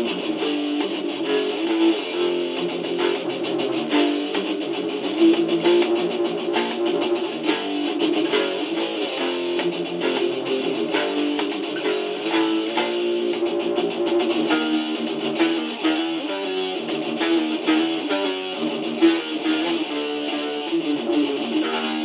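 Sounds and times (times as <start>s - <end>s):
electric guitar metal riff: 0.0s - 22.0s.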